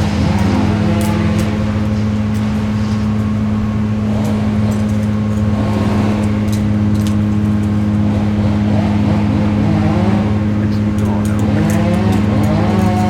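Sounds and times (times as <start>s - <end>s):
heavy equipment engine humming: 0.0s - 13.0s.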